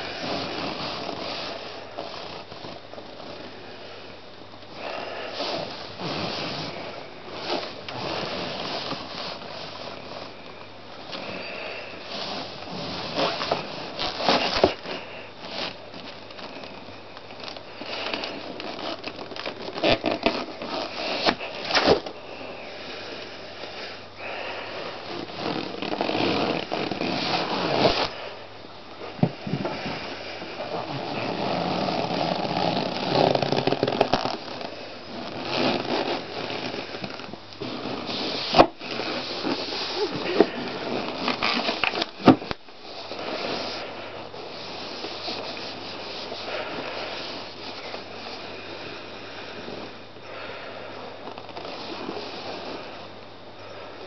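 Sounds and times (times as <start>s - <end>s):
balloons squeaking and rubbing: 0.0s - 3.5s, 4.7s - 22.7s, 24.2s - 28.4s, 29.4s - 49.8s, 51.2s - 53.2s
balloons creaking: 0.0s - 3.8s, 4.5s - 50.4s, 51.1s - 53.2s.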